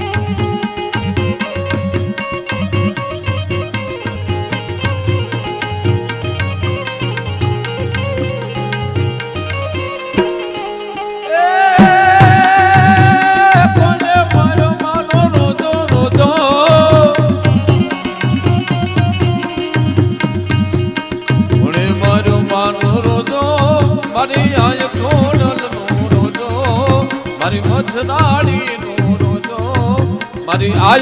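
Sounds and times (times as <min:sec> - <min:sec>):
folk melody with held note: 0:00.0 - 0:31.0
hand drums beating: 0:00.0 - 0:31.0.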